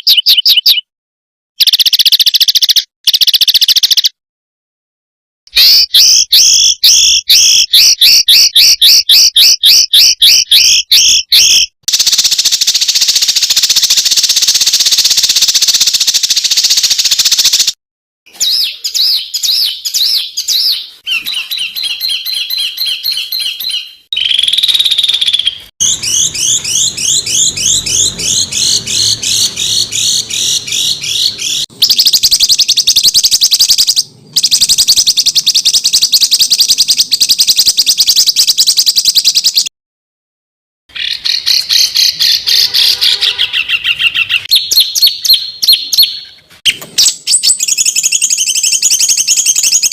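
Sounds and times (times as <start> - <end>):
songbirds singing rapid bursts: 0.0 - 0.9, 1.6 - 4.2, 5.5 - 39.7, 40.9 - 49.9.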